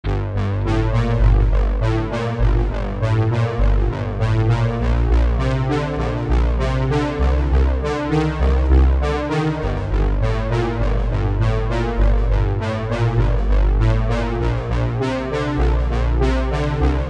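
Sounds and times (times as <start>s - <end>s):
heavy bass line: 0.0s - 17.0s
synthesizer and keyboard music: 0.0s - 17.0s.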